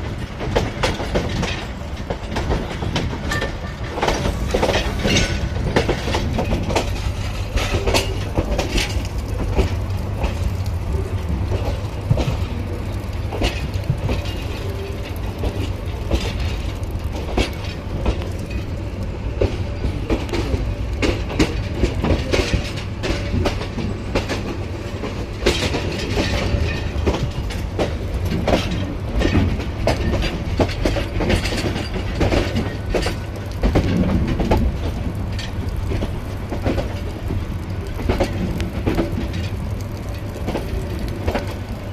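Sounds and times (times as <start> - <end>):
train rumbling on rails: 0.0 - 41.9
wheels clicking over track: 0.0 - 41.9.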